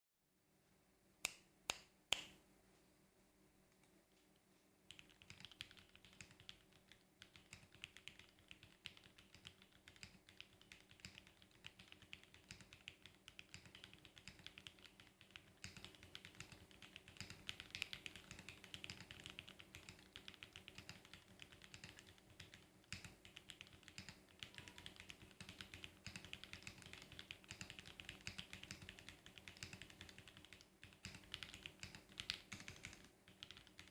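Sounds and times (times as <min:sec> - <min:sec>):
fast typing on mechanical keyboard: 0:04.9 - 0:33.9
loud keyboard clicks: 0:04.9 - 0:33.9.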